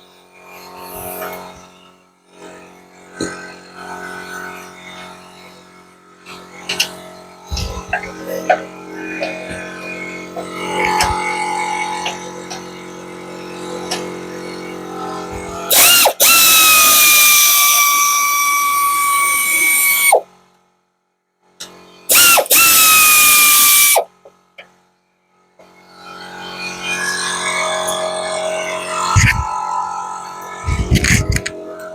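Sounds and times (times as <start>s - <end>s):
power tool motor whine: 0.0s - 20.6s, 21.6s - 24.3s, 25.3s - 31.9s.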